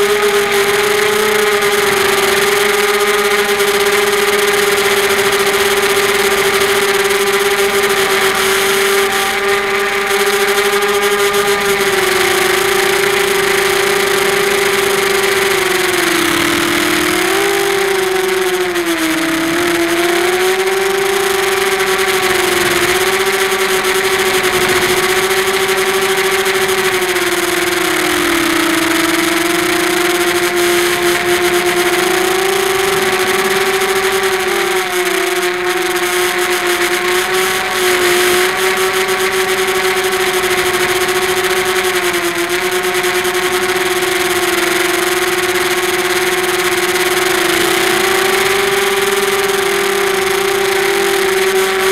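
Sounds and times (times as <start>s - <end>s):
quadcopter motors whining: 0.0s - 51.9s.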